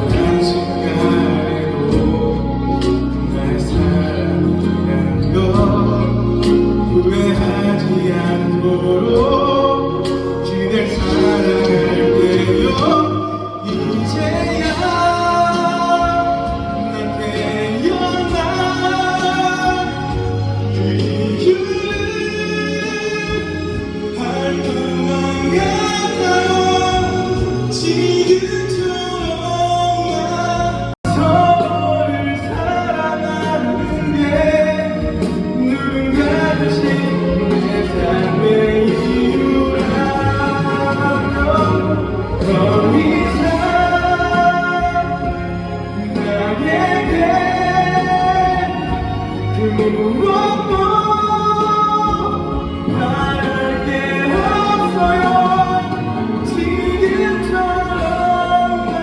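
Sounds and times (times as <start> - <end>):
instrumental accompaniment: 0.0 - 59.0
man singing a slow ballad: 0.0 - 59.0.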